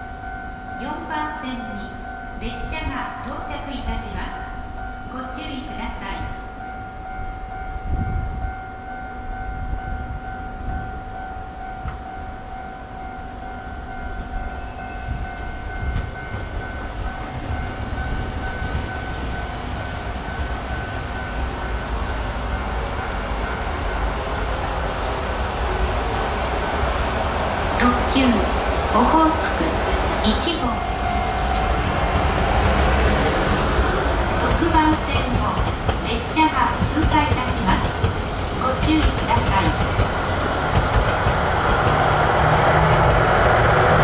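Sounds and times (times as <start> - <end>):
electric train high whine: 0.0 - 44.0
train low rumble: 0.0 - 44.0.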